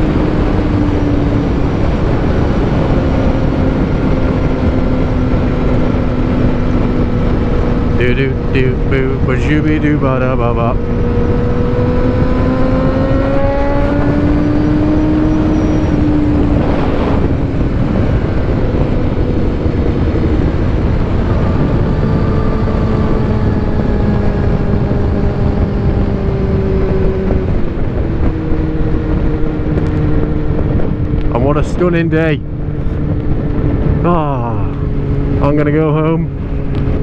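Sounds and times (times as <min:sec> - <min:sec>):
motorcycle engine running: 0:00.0 - 0:37.0
wind rush on microphone: 0:00.0 - 0:37.0.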